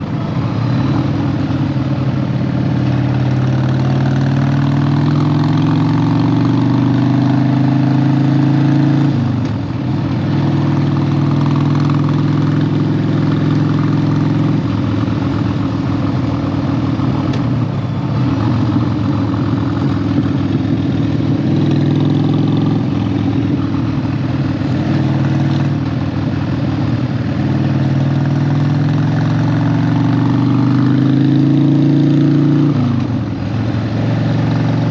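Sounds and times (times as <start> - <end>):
motorcycle engine under load: 0.0 - 34.9.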